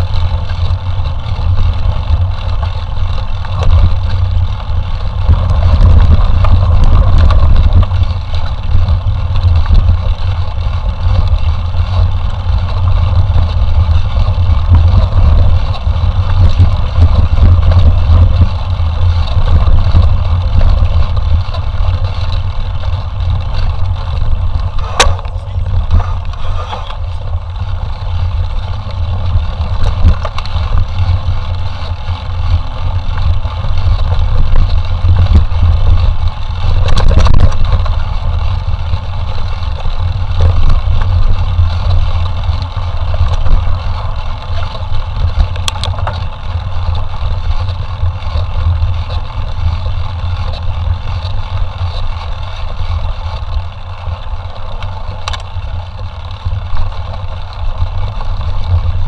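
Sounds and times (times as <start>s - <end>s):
deep low rumble of bike riding: 0.0s - 59.0s
wind buffeting microphone: 0.0s - 59.0s.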